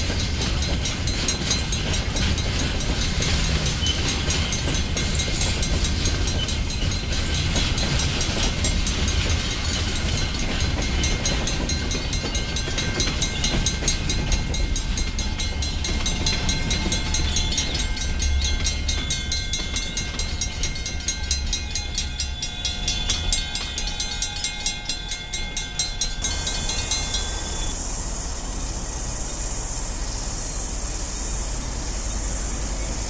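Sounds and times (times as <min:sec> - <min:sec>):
train wagons rumbling and clattering: 0:00.0 - 0:33.0.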